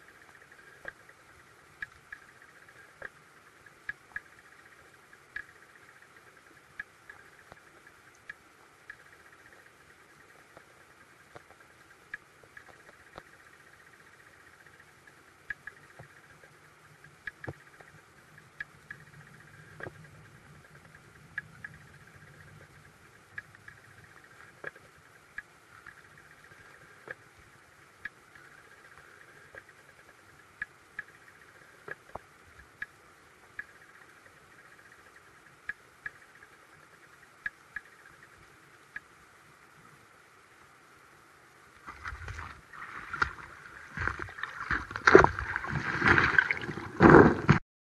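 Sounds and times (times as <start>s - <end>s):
sharp ticks and clicks: 0.0s - 39.8s
muffled underwater stream wash: 0.0s - 47.6s.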